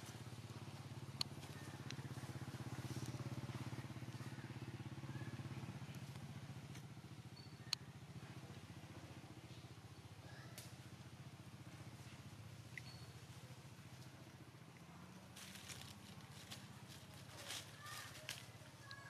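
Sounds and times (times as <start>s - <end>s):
small engine throbbing hum: 0.0s - 19.0s.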